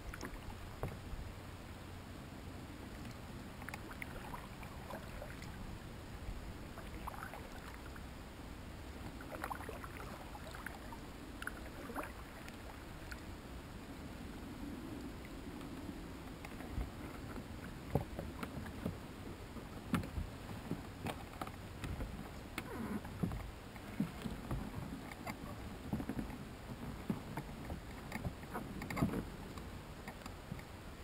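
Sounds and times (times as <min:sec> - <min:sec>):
paddle strokes in water: 0:00.0 - 0:02.0, 0:02.7 - 0:31.0.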